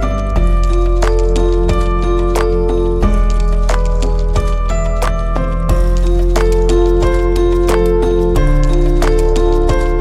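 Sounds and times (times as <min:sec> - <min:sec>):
instrumental music with beat and bass: 0:00.0 - 0:10.0.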